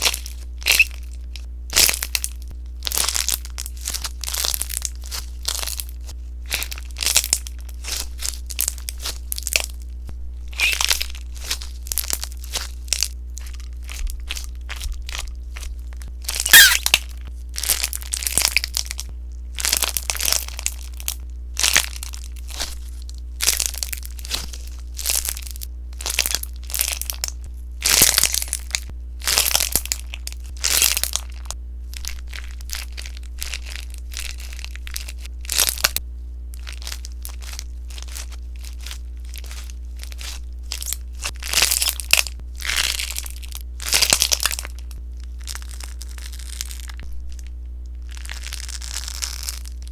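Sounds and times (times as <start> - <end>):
low hum: 0.0 - 49.9
slime crackling and popping: 0.0 - 49.9.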